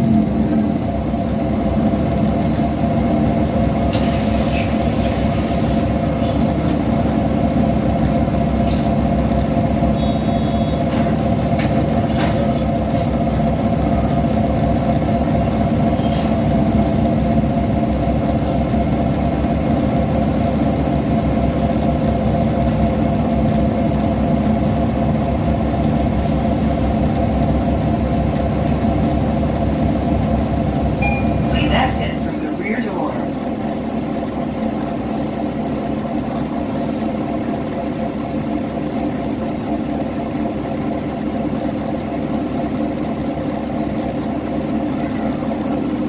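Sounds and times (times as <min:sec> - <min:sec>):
bus diesel engine humming: 0:00.0 - 0:46.0.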